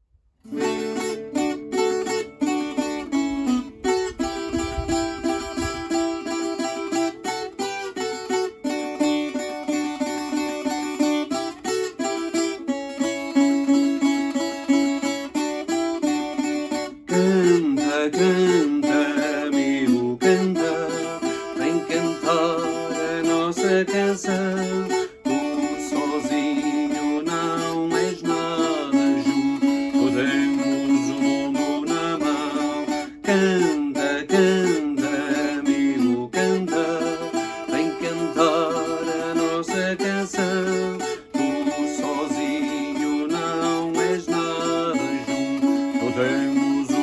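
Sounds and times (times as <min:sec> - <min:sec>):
steel-strung guitar playing melody: 0:00.5 - 0:47.0.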